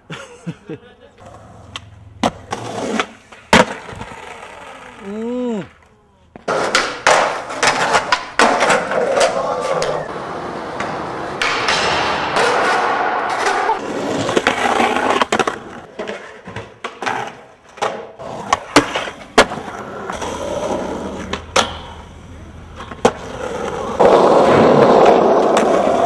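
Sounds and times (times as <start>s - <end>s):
skateboard wheels rolling on concrete: 0.0s - 26.0s
skateboard popping and landing: 1.2s - 5.0s, 6.3s - 22.1s, 22.7s - 26.0s.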